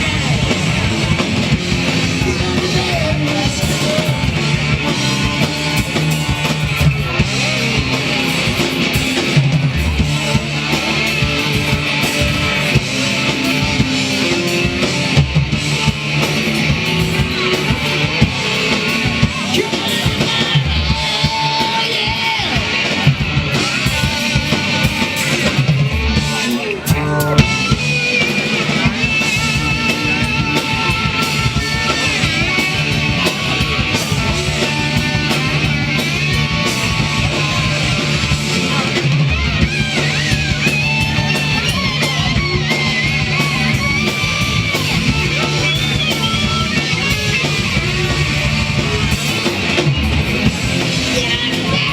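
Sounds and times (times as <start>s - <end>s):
rock band playing: 0.0s - 51.9s
wavering electric guitar lead: 0.0s - 51.9s.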